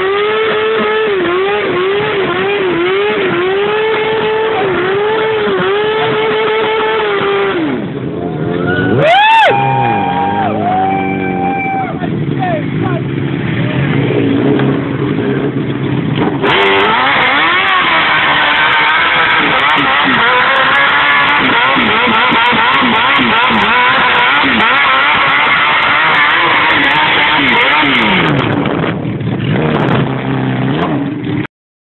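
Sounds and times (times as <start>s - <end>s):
motorcycle engine revving: 0.0s - 31.5s.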